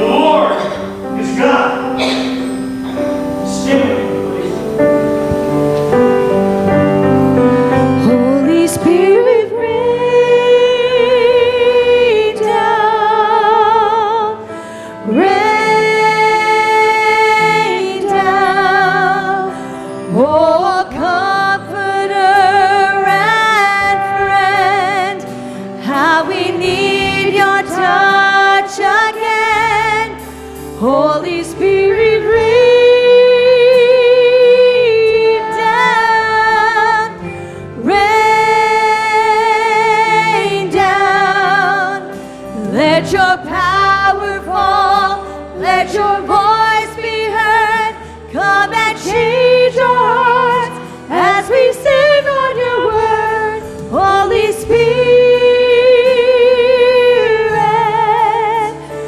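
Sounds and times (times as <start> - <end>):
sustained instrumental chords: 0.0 - 59.0
woman singing with vibrato: 7.8 - 59.0.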